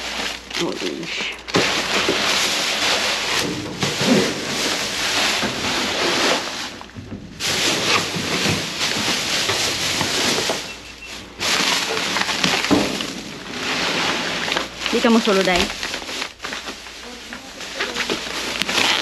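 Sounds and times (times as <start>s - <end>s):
plastic bags rustling and crinkling: 0.0s - 19.0s.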